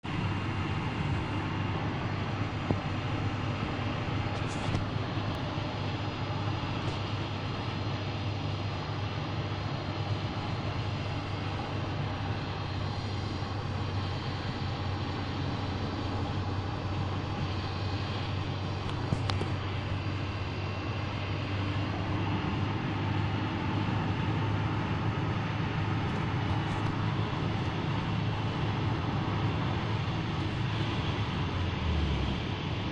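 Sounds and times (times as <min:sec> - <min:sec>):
car engine humming: 0:00.0 - 0:32.9.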